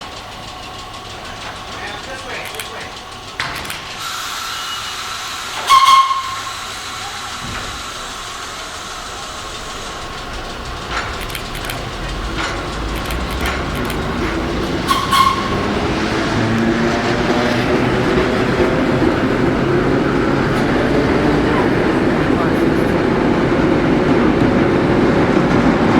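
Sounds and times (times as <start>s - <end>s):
train rumble: 0.0s - 25.9s
train air hiss: 0.4s - 24.2s.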